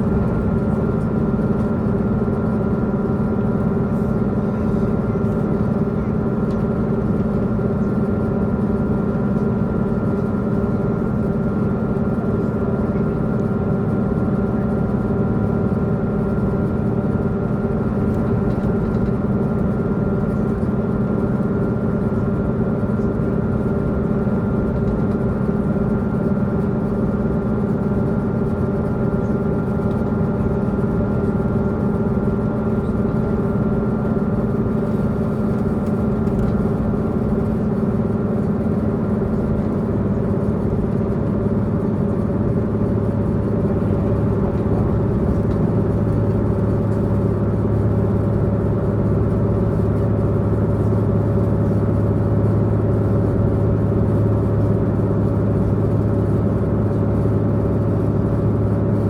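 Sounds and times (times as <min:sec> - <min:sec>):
low train rumble: 0:00.0 - 0:59.0
train diesel engine running: 0:00.0 - 0:59.0.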